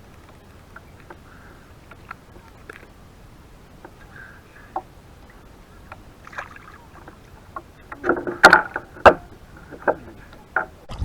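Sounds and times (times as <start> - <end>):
knocks and clatter on kayak: 0.0 - 10.9.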